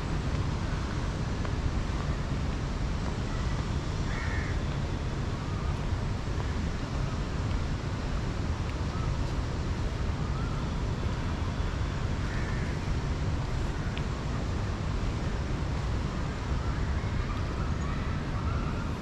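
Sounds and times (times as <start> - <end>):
low city rumble: 0.0 - 19.0.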